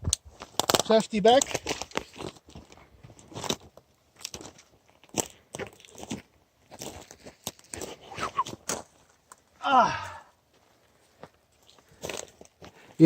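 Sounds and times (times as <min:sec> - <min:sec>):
footsteps crunching: 0:00.2 - 0:13.0.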